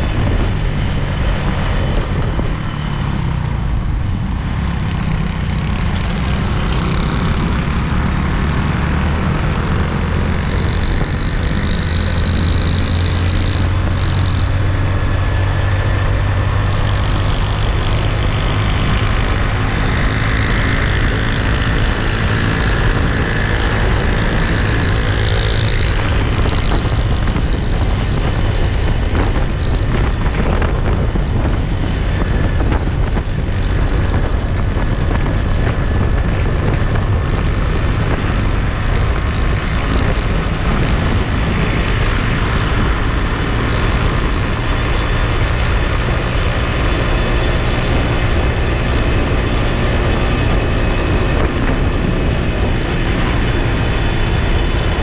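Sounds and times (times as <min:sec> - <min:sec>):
motorcycle engine running: 0:00.0 - 0:55.0
vehicles passing: 0:00.0 - 0:55.0.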